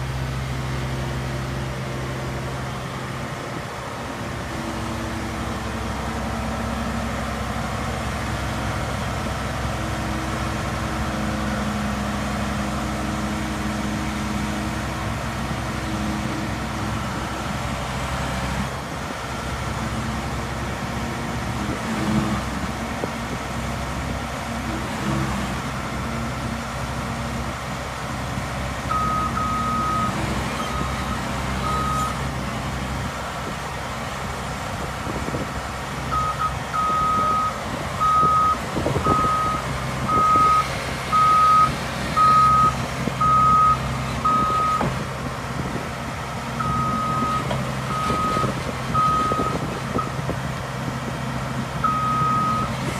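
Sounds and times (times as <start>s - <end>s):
heavy machinery engine running: 0.0s - 52.9s.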